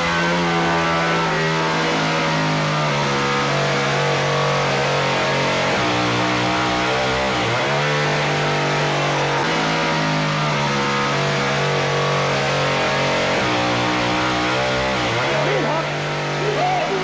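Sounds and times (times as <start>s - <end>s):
chainsaw running at high revs: 0.0s - 17.0s.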